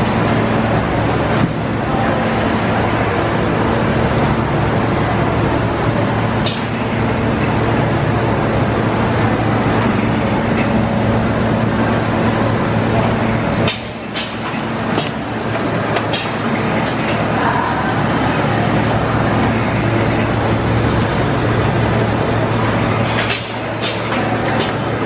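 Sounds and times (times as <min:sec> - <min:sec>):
production line mechanical hum: 0:00.0 - 0:25.0.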